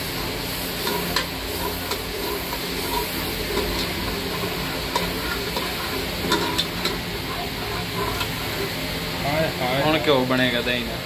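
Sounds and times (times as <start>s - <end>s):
sauce sizzling in a pot: 0.0s - 11.0s.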